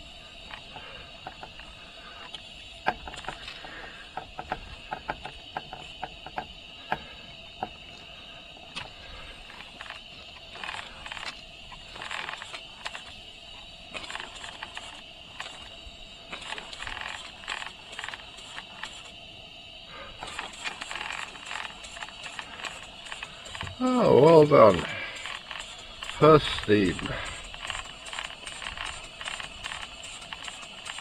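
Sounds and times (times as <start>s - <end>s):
steam engine hissing: 0.0s - 31.0s
small mechanical clicks and knocks: 0.4s - 7.0s, 8.7s - 13.2s, 13.9s - 19.2s, 20.2s - 31.0s.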